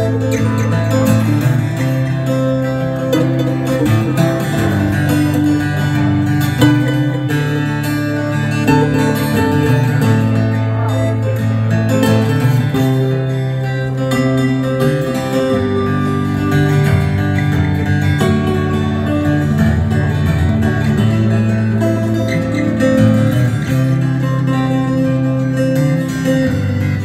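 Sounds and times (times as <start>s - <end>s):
acoustic guitars strumming chords: 0.0s - 27.0s.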